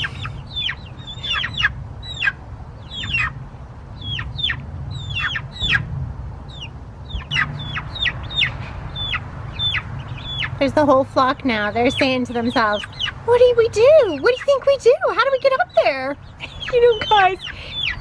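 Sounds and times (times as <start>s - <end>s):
baby chicks peeping: 0.0s - 18.0s.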